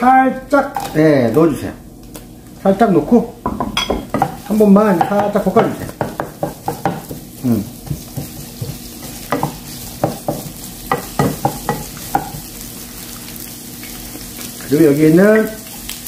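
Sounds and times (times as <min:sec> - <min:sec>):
onion sizzling in oil: 0:00.5 - 0:16.0.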